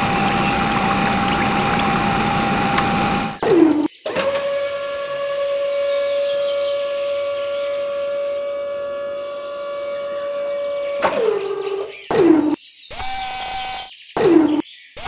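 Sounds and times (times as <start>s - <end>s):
small motor whining: 0.0s - 3.4s, 4.1s - 12.0s, 12.9s - 13.9s.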